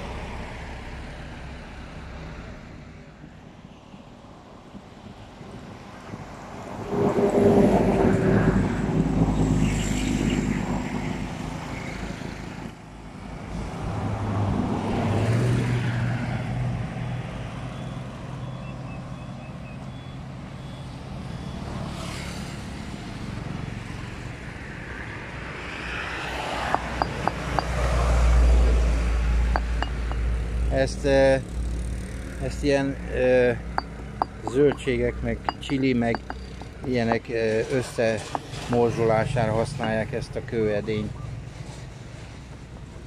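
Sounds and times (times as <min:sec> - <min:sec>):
vehicles passing on road: 0:00.0 - 0:43.0.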